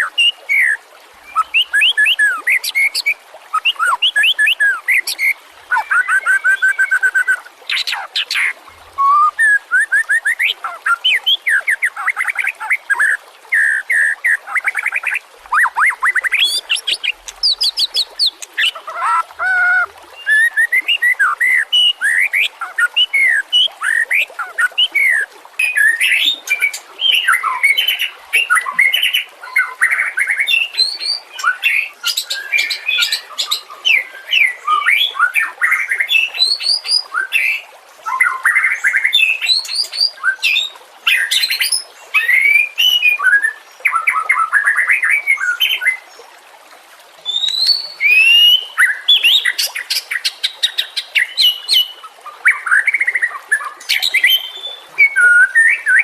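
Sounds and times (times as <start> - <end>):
bird singing trills and whistles: 0.0 - 46.0, 47.3 - 56.0.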